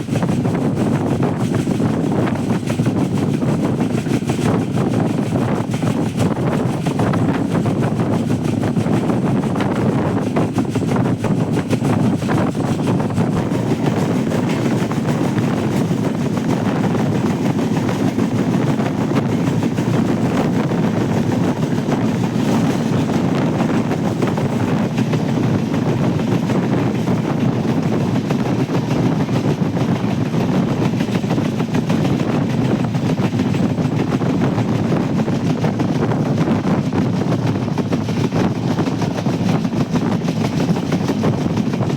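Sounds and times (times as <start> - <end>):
passenger train rumbling on track: 0.0 - 41.9
wind noise: 0.0 - 41.9.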